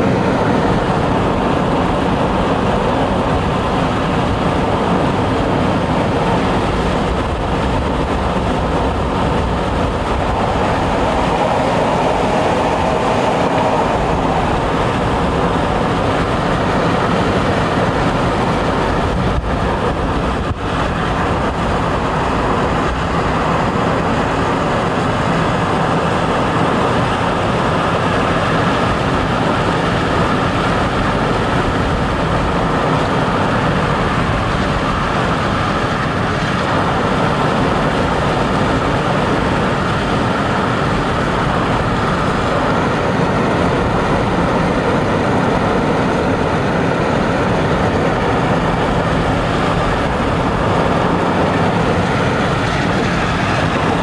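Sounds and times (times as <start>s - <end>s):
vehicle interior rumble and hiss: 0.0s - 54.0s.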